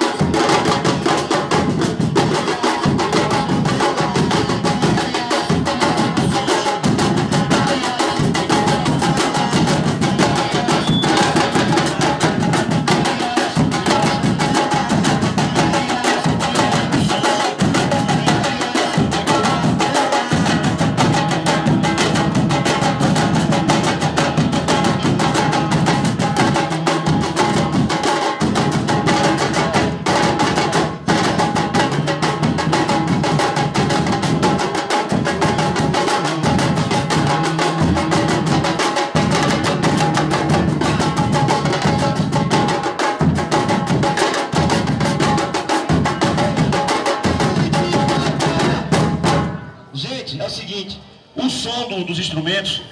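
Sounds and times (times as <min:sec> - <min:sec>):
bass drums beaten with mallets: 0:00.0 - 0:49.6
smaller drums played with sticks: 0:00.0 - 0:49.8.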